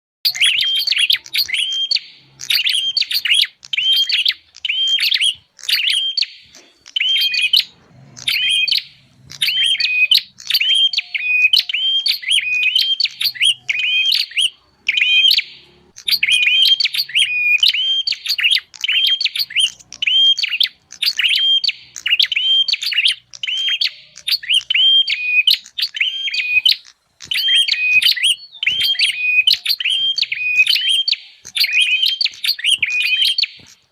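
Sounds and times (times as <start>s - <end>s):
high bird chirping calls: 0.2s - 33.9s.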